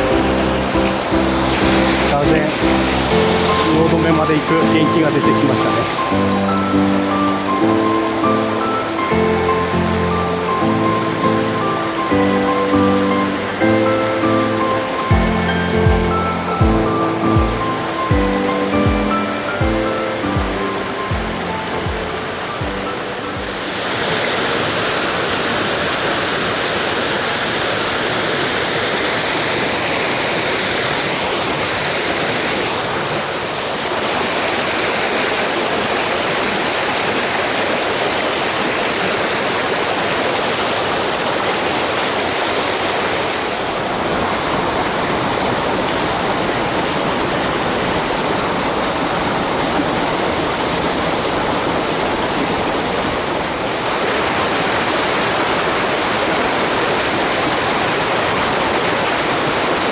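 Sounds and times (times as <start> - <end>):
stream water rushing over rocks: 0.0 - 59.9.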